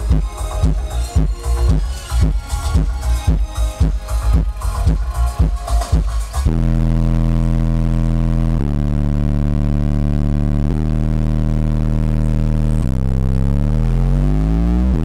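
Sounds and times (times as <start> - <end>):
deep bass notes from subwoofers: 0.0 - 15.0.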